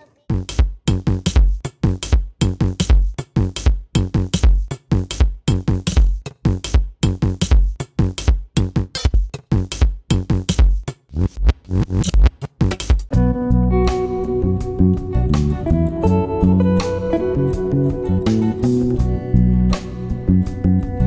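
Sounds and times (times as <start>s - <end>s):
electronic music with drum-machine beat: 0.2s - 21.0s.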